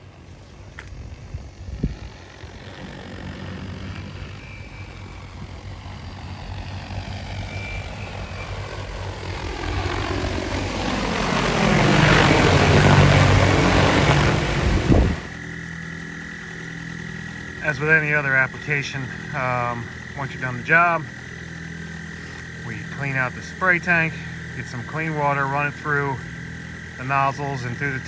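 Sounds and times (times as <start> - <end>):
drone rotors whirring: 0.0 - 28.0.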